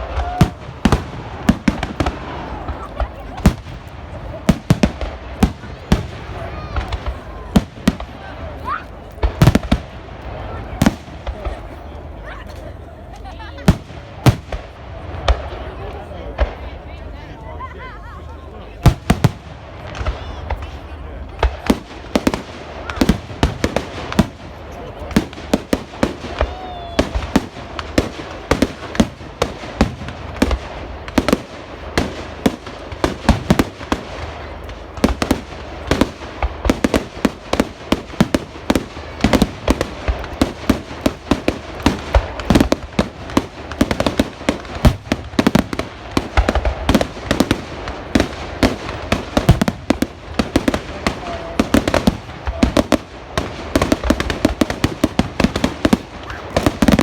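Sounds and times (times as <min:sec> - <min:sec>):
fireworks bangs: 0:00.0 - 0:17.2, 0:18.8 - 0:57.0.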